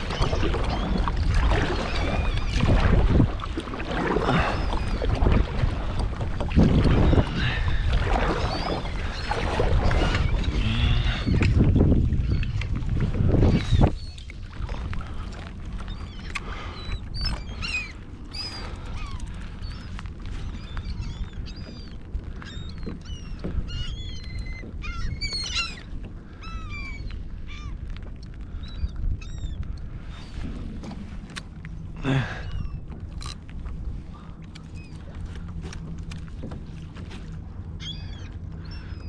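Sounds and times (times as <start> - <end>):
seagulls calling: 0.0 - 39.0
wind and water rumble: 0.0 - 39.0.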